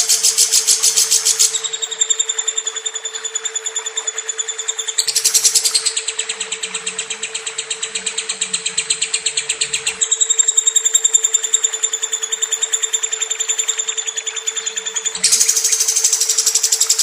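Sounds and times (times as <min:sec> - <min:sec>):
lovebird rapid trill: 0:00.0 - 0:17.0
steady low hum: 0:00.0 - 0:17.0.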